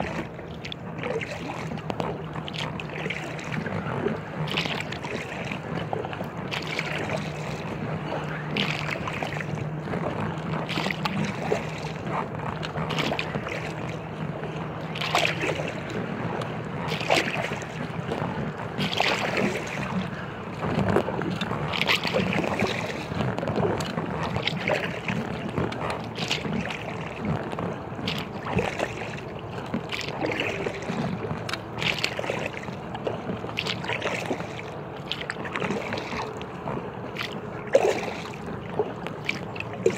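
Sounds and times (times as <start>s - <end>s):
low steady hum: 0.0s - 39.9s
paddle strokes splashing: 0.0s - 39.9s
rushing water: 0.0s - 39.9s
wind: 0.0s - 39.9s.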